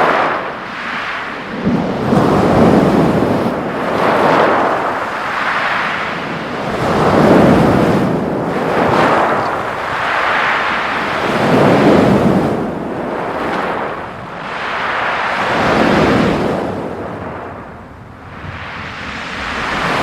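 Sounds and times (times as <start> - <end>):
waves breaking on pebble beach: 0.0 - 20.0.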